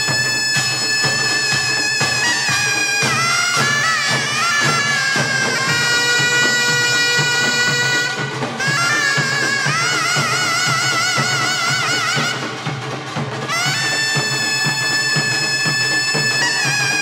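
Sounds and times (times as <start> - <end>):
reedy shawm melody: 0.0 - 17.0
traditional percussion: 0.0 - 17.0.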